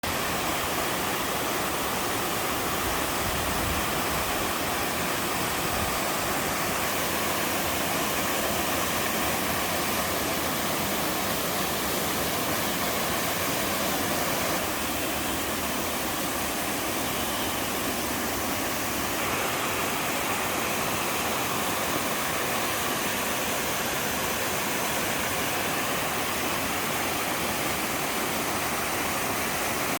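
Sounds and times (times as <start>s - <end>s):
small waterfall splashing: 0.0s - 30.0s.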